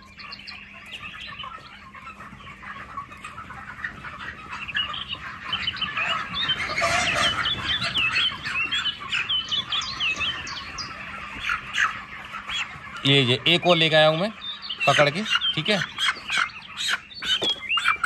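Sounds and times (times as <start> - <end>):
chickens clucking and peeping: 0.0 - 18.0.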